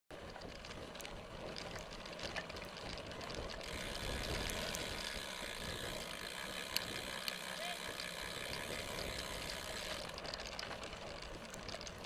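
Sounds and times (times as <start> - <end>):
bike chain rattling and clicking: 0.1 - 12.0
bike tyres on trail: 0.1 - 12.0.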